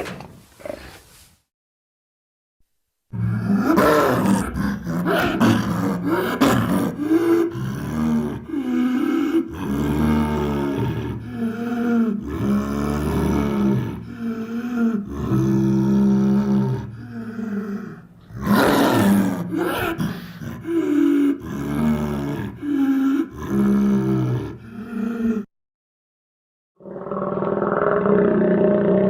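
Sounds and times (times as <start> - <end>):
dinosaur roars and growls: 3.1 - 25.5, 26.8 - 29.0.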